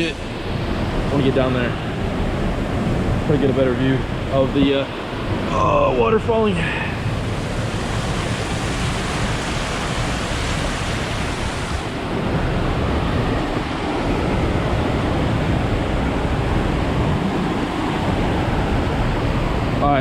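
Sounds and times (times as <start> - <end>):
waterfall rushing: 0.0 - 3.0, 5.0 - 20.0.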